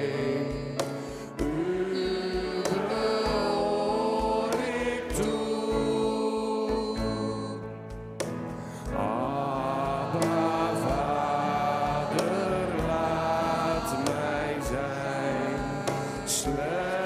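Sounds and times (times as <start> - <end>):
band accompaniment: 0.0 - 17.0
congregation singing worship song: 0.0 - 17.0.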